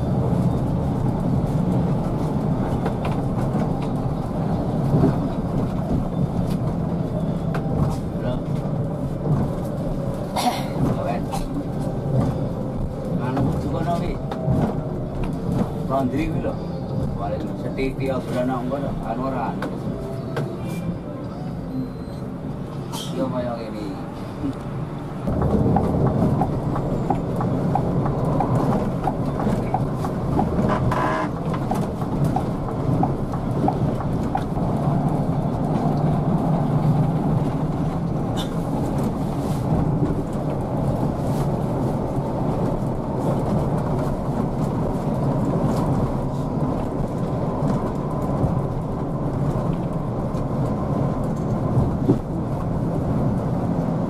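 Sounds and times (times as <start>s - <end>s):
bus engine and road hum: 0.0s - 54.0s.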